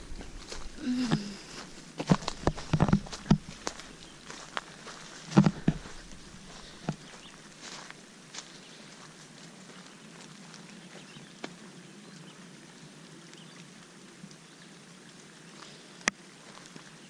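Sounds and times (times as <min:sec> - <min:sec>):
light rain on pond surface: 0:00.0 - 0:17.0.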